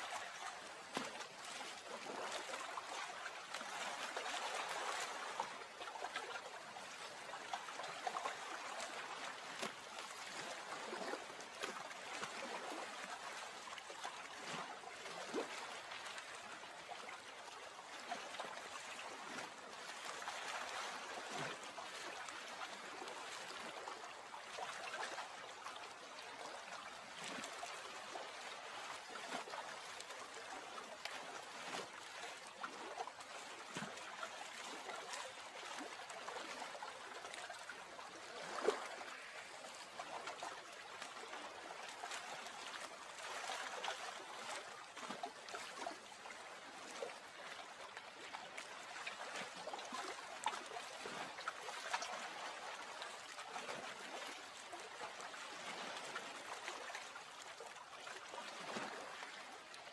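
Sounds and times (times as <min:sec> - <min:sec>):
water trickling and lapping: 0:00.0 - 0:59.9.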